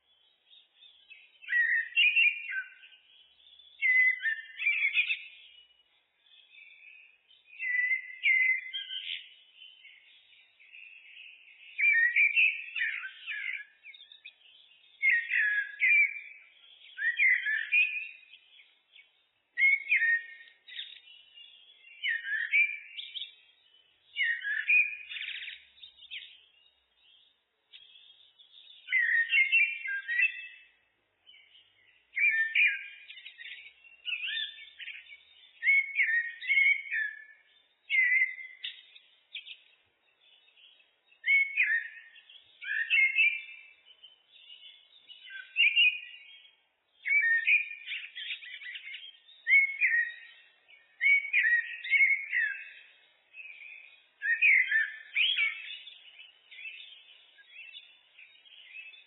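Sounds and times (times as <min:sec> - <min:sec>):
blackbird singing: 0:00.0 - 0:59.0.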